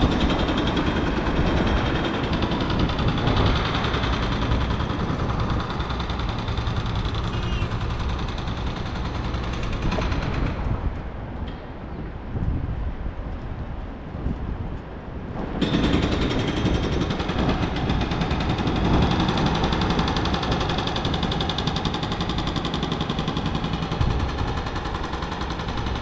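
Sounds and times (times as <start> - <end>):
jackhammer pounding: 0.0 - 10.9, 15.5 - 26.0.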